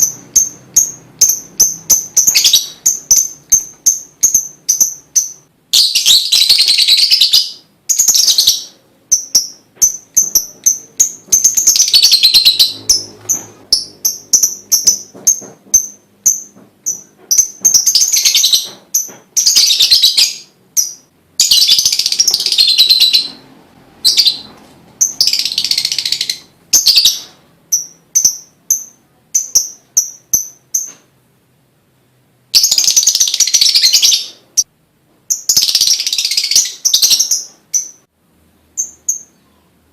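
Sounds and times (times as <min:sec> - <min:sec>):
lovebird harsh chattering: 0:00.0 - 0:23.4, 0:24.0 - 0:30.9, 0:32.6 - 0:34.7
lovebird chirping: 0:00.0 - 0:31.1, 0:32.5 - 0:34.7, 0:35.3 - 0:39.9.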